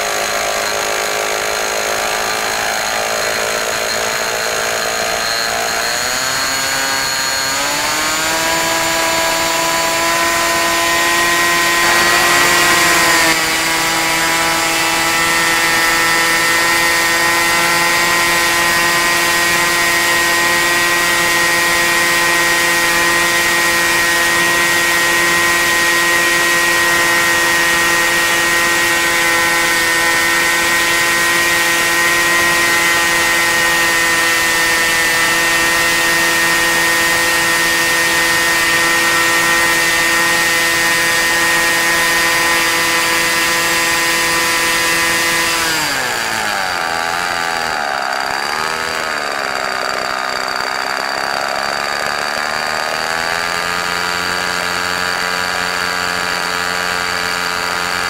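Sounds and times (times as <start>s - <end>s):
model aircraft engine: 0.0s - 58.0s.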